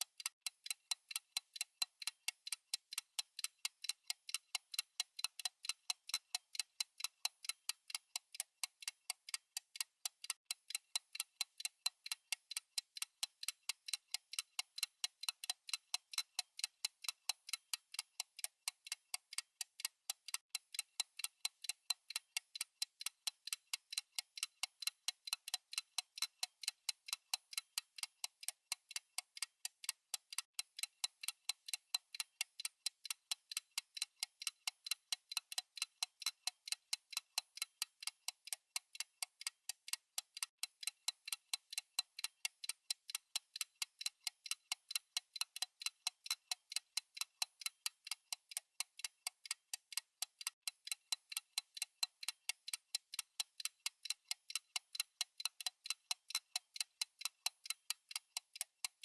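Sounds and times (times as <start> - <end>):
clock ticking fast: 0.0 - 59.0.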